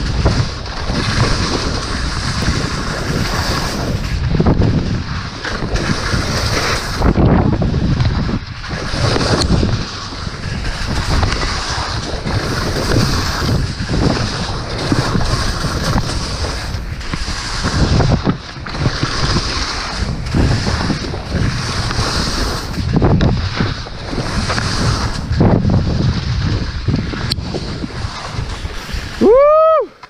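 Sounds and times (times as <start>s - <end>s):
ski edges scraping snow: 0.0s - 30.0s
wind buffeting a microphone: 0.0s - 30.0s.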